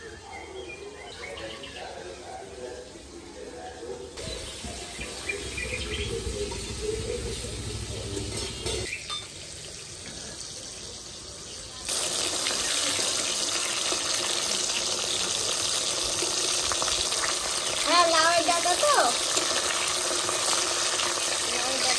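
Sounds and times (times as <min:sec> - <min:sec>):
fish sizzling in hot oil: 0:04.2 - 0:21.9.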